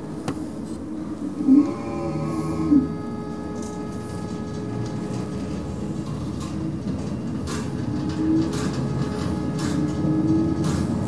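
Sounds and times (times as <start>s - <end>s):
lift machine hum: 0.0s - 11.0s.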